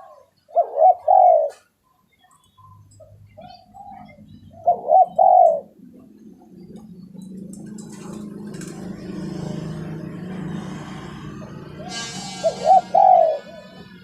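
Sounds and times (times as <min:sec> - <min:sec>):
dove cooing: 0:00.0 - 0:01.7, 0:02.6 - 0:14.0.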